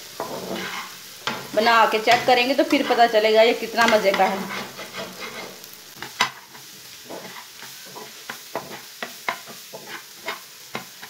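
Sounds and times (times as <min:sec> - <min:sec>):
food sizzling: 0:00.0 - 0:11.0
metal spatula scraping frying pan: 0:00.1 - 0:11.0.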